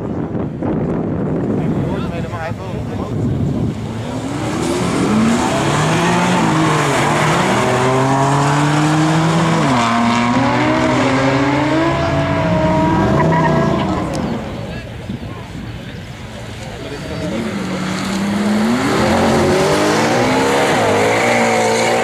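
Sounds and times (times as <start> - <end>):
car engines accelerating hard: 0.3 - 22.0.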